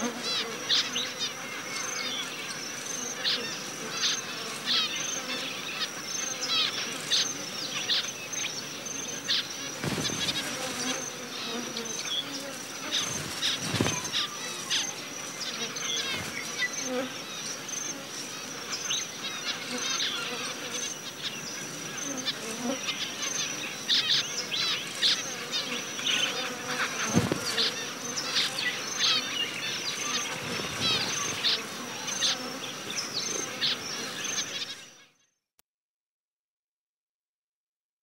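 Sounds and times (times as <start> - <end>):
high-pitched insect drone: 0.1 - 34.9
finches chirping: 2.9 - 35.0.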